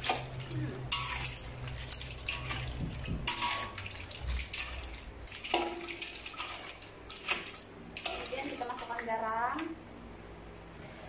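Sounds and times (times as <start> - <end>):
clam shells clattering in a wok: 0.0 - 9.6
liquid sloshing: 0.0 - 9.7.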